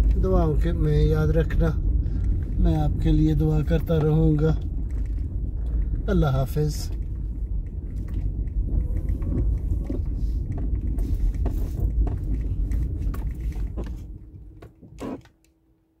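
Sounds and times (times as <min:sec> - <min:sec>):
car rumble from inside cabin: 0:00.0 - 0:15.5.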